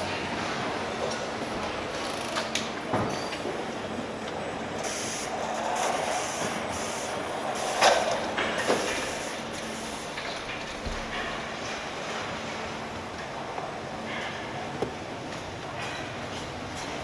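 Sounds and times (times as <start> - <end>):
factory machinery humming: 0.0 - 17.0.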